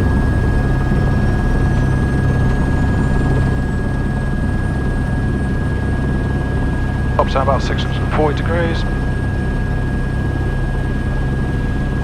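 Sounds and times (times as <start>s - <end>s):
helicopter engine drone: 0.0s - 12.0s.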